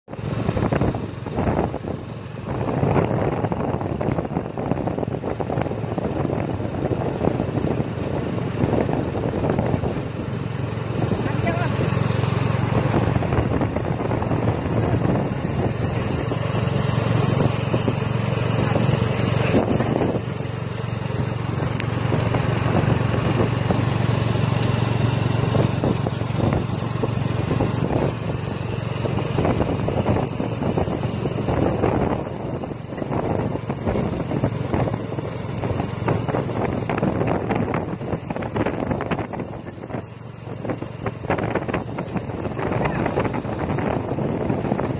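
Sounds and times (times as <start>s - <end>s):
road noise: 0.0s - 44.9s
cart engine running: 0.1s - 44.9s
wind noise on microphone: 0.1s - 44.9s.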